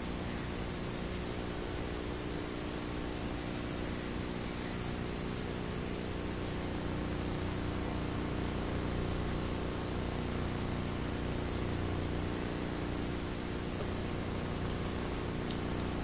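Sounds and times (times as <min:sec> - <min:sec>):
faint low hum: 0:00.0 - 0:16.0
steady hiss: 0:00.0 - 0:16.0.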